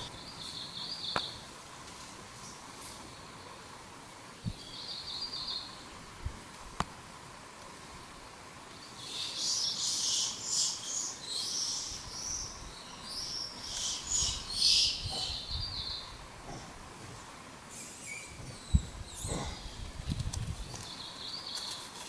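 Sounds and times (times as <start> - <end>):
small birds chirping: 0.0 - 1.5, 2.4 - 6.0, 8.2 - 22.0.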